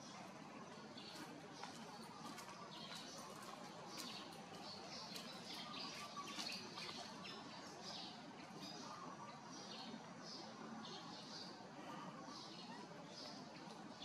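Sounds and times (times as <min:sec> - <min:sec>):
birds chirping: 0:00.0 - 0:14.0
faint outdoor background noise: 0:00.0 - 0:14.0.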